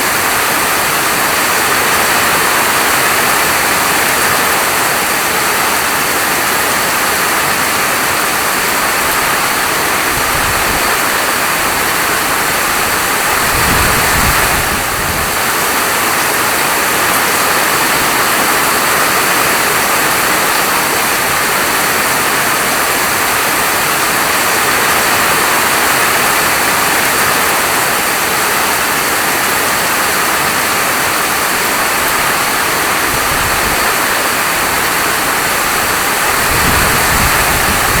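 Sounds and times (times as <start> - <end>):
heavy rain hissing: 0.0 - 38.0.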